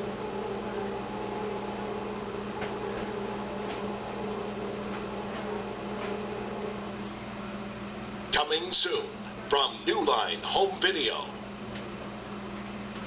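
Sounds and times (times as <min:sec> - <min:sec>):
tape playback hum with hiss: 0:00.0 - 0:13.0.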